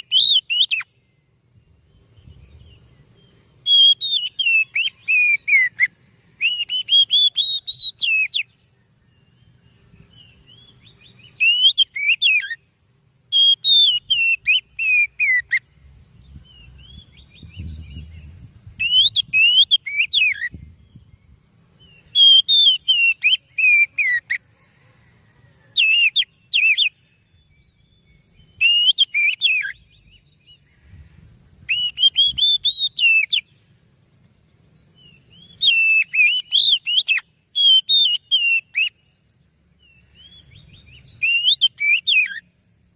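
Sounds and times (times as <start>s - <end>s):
bird singing whistled notes: 0.0s - 42.9s.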